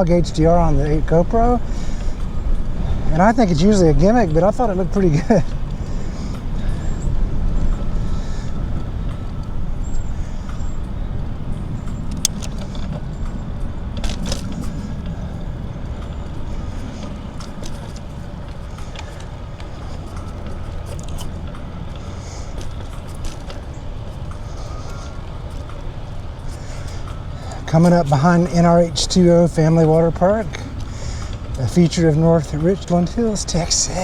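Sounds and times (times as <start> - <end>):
bicycle tyre noise: 0.0 - 34.0
wind rumble on microphone: 0.0 - 34.0.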